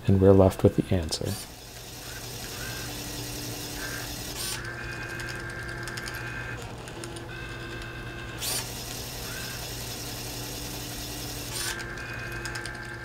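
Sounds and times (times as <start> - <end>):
steady motor hum: 0.0 - 13.0
high motor whine with ticking: 0.1 - 13.0.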